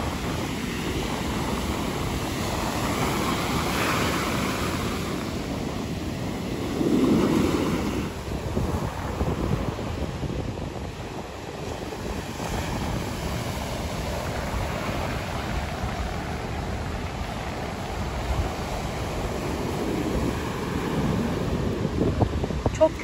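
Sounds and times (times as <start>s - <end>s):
sea surf breaking on beach: 0.0s - 23.0s
wind buffeting microphone: 0.0s - 23.0s.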